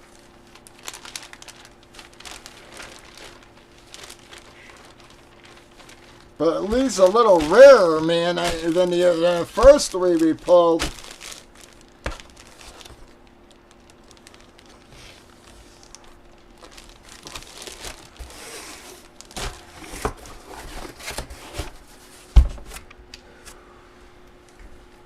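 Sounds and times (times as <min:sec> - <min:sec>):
card packaging crinkling and tearing: 0:00.1 - 0:21.8.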